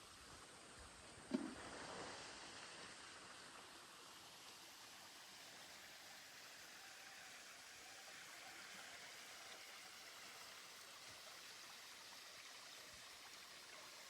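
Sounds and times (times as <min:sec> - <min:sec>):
faint rush of water: 0:00.0 - 0:14.0.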